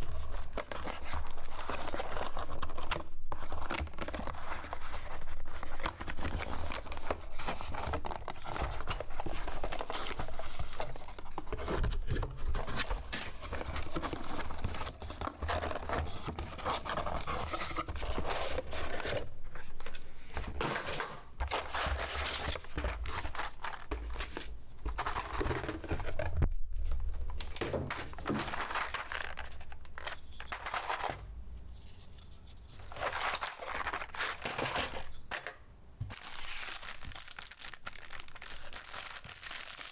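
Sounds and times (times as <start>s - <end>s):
paper and plastic wrapping crinkling: 0.0s - 39.9s
handling noises: 3.5s - 39.8s.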